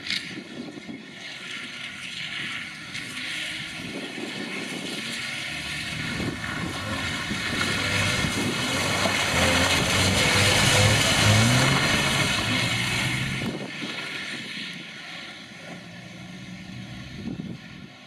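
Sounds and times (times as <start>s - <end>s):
rally car engine: 0.0s - 18.0s
tyres hissing through water and mud: 1.5s - 17.3s.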